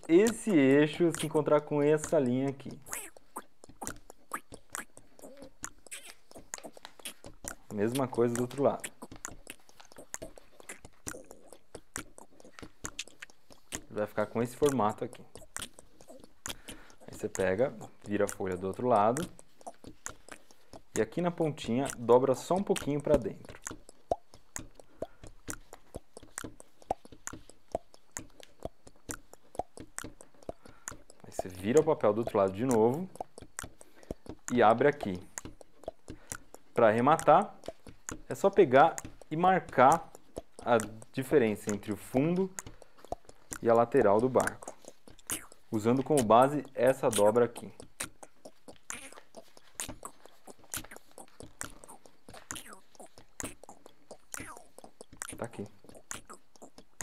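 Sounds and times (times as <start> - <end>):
steady ticking: 0.0 - 57.0.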